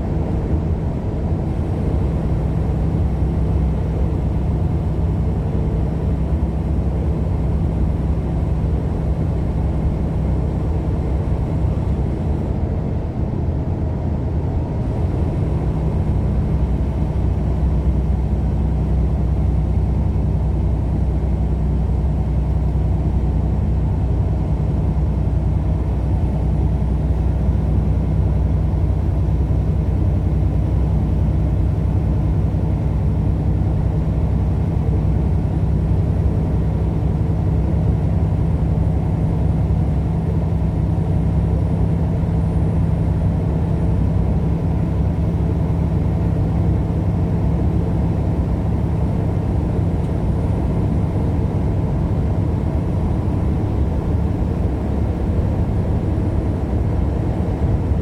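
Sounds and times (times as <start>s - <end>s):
vehicle engine and road drone: 0.0s - 58.0s.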